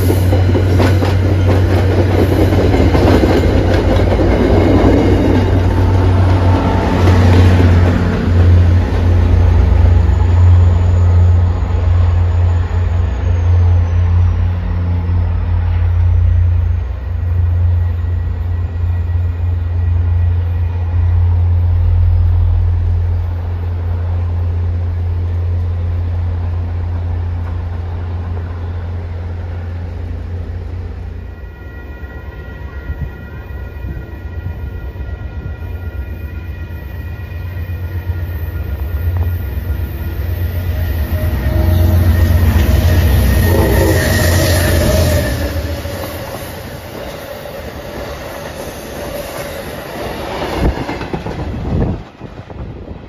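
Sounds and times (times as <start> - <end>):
diesel locomotive engine drone: 0.0 - 53.0
train rail noise: 0.0 - 53.0.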